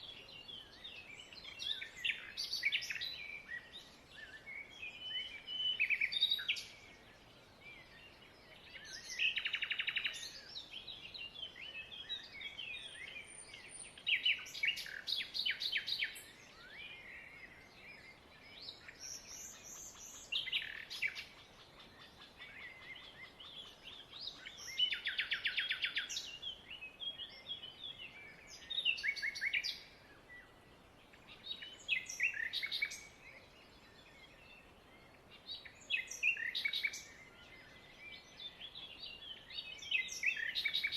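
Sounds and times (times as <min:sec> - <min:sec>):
small birds chirping and singing: 0:00.0 - 0:40.9.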